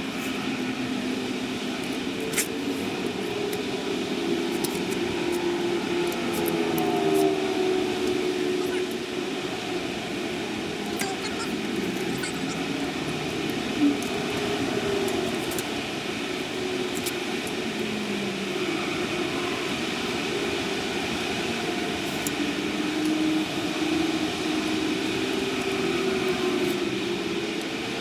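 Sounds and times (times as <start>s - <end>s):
freeway traffic hum: 0.0s - 28.0s.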